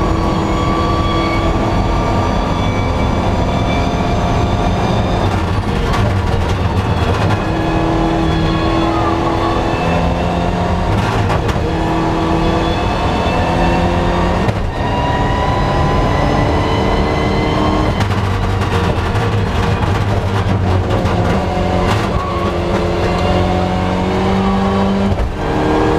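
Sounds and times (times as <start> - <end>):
rally car engine running hard: 0.0 - 25.9.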